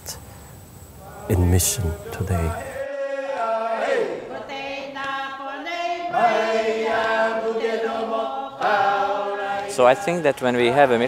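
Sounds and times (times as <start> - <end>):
group singing unaccompanied: 1.0 - 11.0.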